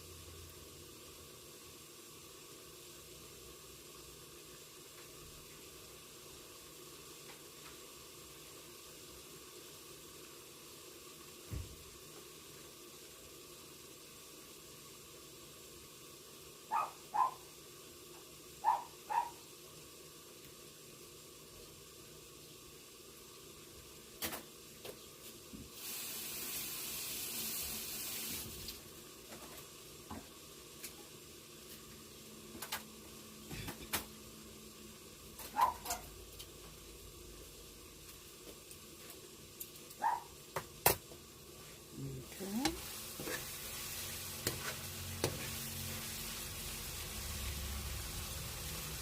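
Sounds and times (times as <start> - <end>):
food sizzling in a pan: 0.0 - 49.0
hiss: 0.0 - 49.0.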